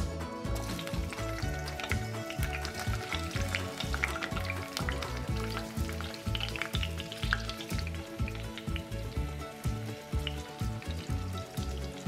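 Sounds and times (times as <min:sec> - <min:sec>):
background music: 0:00.0 - 0:12.0
peppers sizzling in hot oil: 0:00.4 - 0:12.0.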